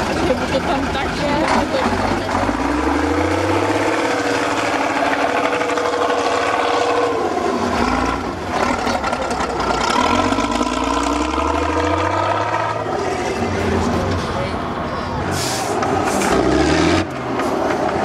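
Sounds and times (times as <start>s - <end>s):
truck engine revving hard: 0.0s - 14.3s, 15.2s - 18.0s.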